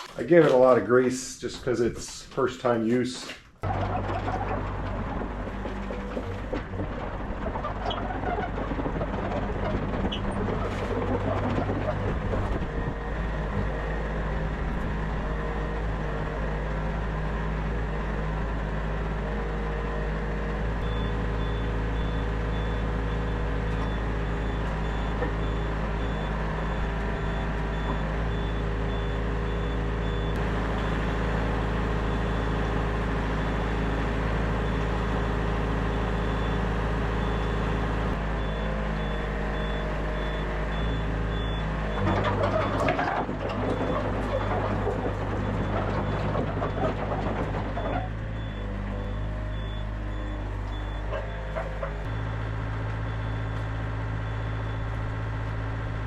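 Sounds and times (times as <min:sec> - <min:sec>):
diesel excavator engine running: 0:00.0 - 0:03.0, 0:03.6 - 0:56.0.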